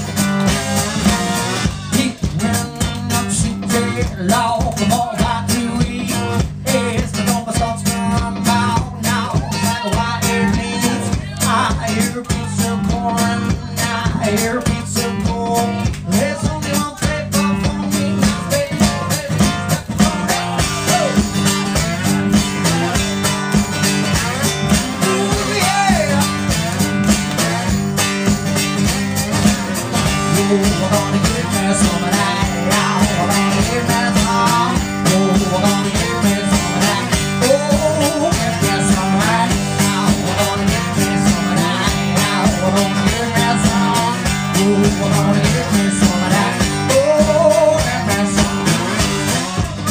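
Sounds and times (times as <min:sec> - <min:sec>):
guitar: 0:00.0 - 0:49.9
man singing: 0:00.0 - 0:49.9
steady beat: 0:00.0 - 0:49.9.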